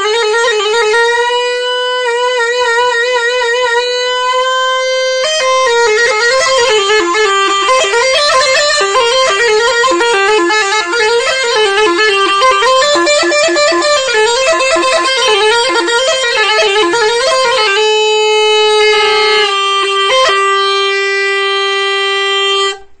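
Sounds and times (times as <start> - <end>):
bagpipe melody: 0.0 - 22.9.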